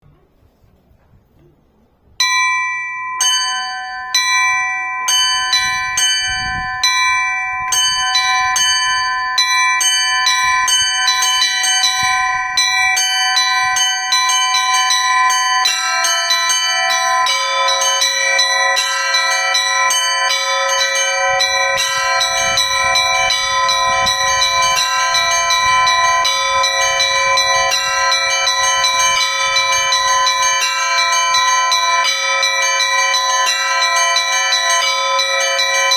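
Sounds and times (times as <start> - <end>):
lower church bells: 2.2 - 35.9
small high church bells pealing: 2.2 - 35.9.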